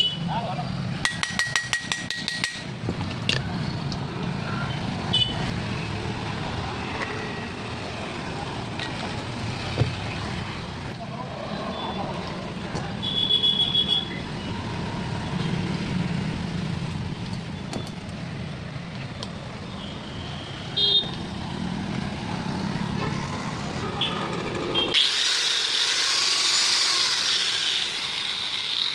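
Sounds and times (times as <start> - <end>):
road traffic rumble: 0.0 - 28.9.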